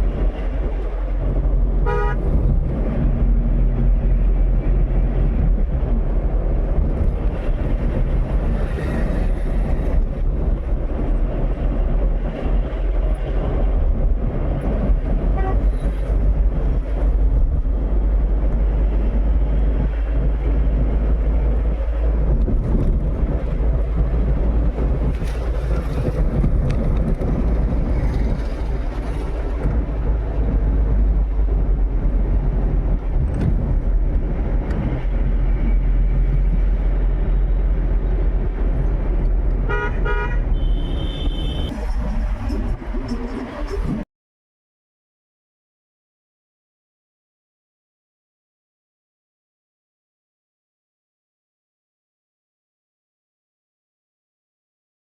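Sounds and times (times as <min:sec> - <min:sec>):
low rumble of moving vehicle: 0:00.0 - 0:44.1
traffic noise: 0:00.0 - 0:44.1.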